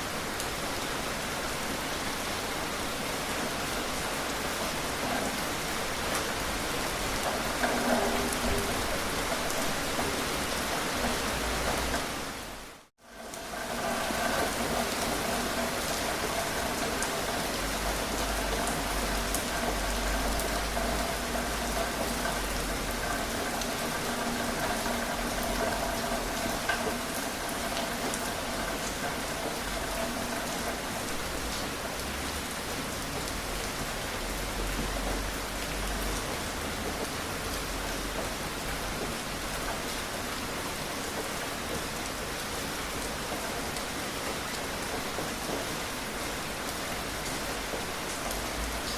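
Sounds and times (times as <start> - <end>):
steady rain patter: 0.0 - 48.9.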